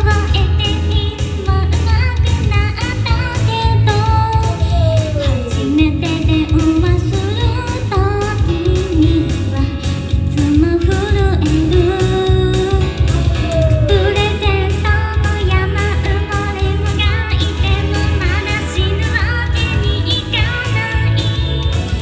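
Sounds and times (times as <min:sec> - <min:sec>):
female singer: 0:00.0 - 0:22.0
pop backing track with beat: 0:00.0 - 0:22.0.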